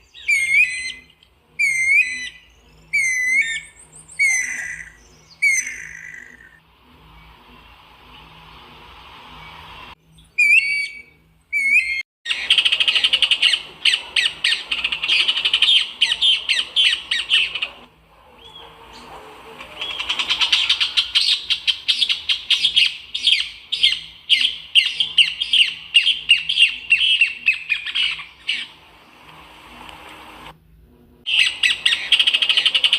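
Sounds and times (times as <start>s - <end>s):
songbirds singing: 0.0s - 30.5s, 31.3s - 32.9s.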